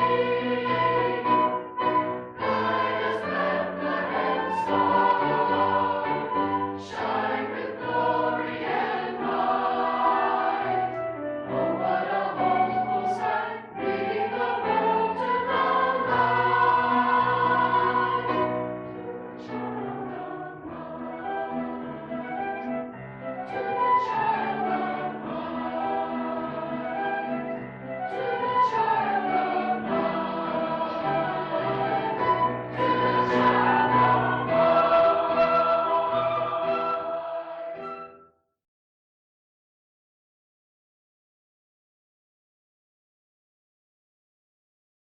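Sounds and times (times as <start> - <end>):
church choir singing in harmony: 0.0 - 38.1
choir accompaniment: 0.0 - 38.2.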